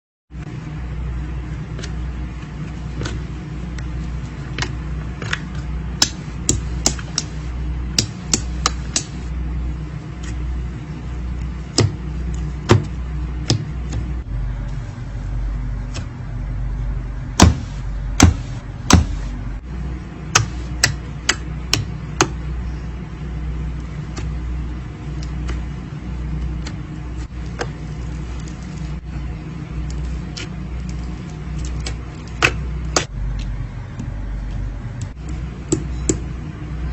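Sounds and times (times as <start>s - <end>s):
steady low rumble: 0.4s - 36.9s.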